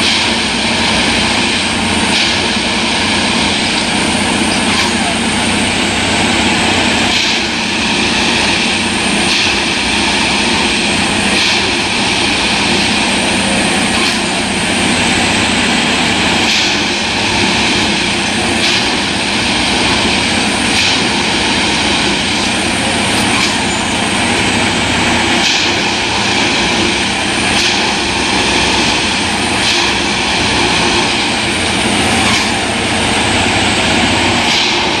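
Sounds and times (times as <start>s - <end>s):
track machine mechanical drone: 0.0s - 35.0s.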